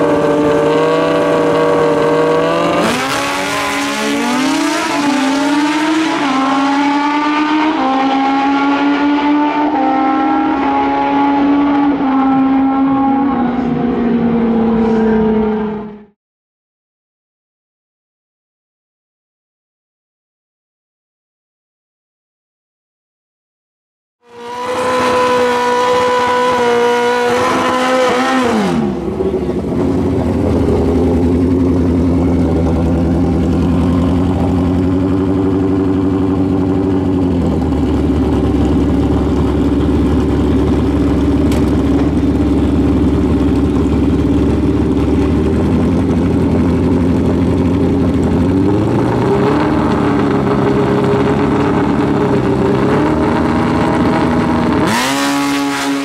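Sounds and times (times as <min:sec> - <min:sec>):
motorcycle engines revving: 0:00.0 - 0:16.2, 0:24.3 - 0:56.0.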